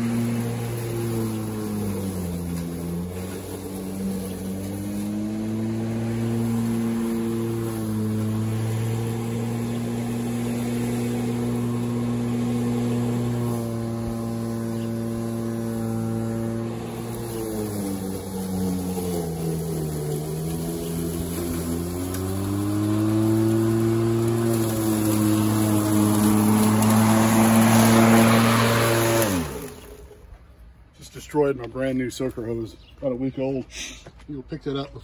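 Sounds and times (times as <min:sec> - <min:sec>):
electric lawnmower hum: 0:00.0 - 0:30.6.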